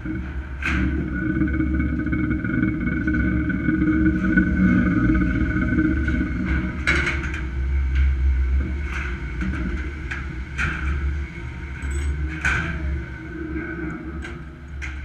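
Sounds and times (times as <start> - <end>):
faint steady whine: 0.0 - 15.0
low rumble: 0.0 - 15.0.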